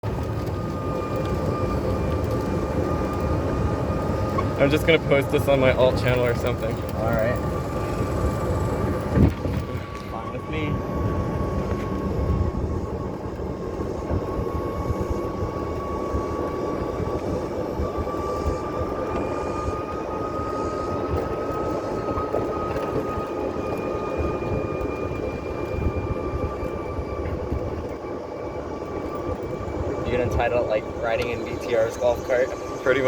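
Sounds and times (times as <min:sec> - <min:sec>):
golf cart drivetrain whine: 0:00.0 - 0:33.0
rumbling wind: 0:00.0 - 0:33.0.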